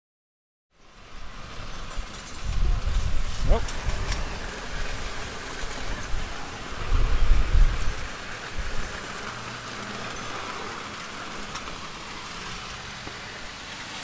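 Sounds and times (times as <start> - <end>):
steady hiss: 0.8 - 14.0
wind buffeting microphone: 1.0 - 13.6.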